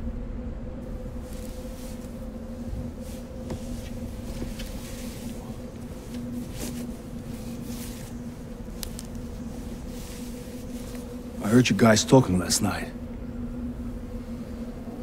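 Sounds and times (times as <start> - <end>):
low droning hum: 0.0 - 15.0
low rumble: 0.0 - 15.0.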